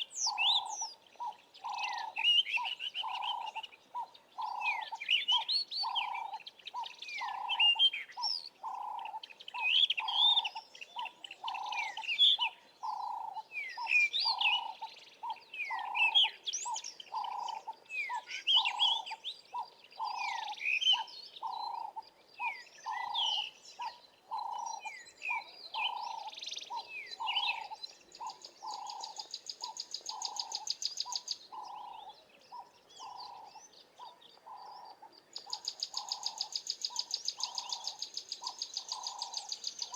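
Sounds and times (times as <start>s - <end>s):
wild birds chirping and whistling: 0.0s - 39.9s.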